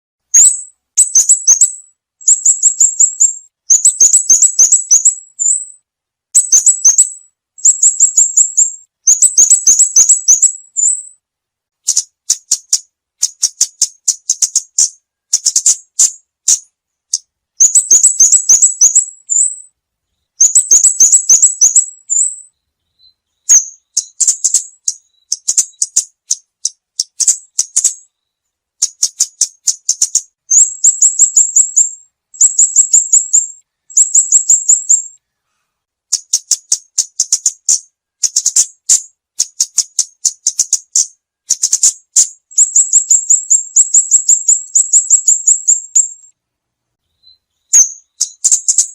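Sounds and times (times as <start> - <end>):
songbird high-pitched chattering: 0.3 - 5.8, 6.4 - 11.2, 11.8 - 35.2, 36.1 - 46.3, 47.0 - 48.9.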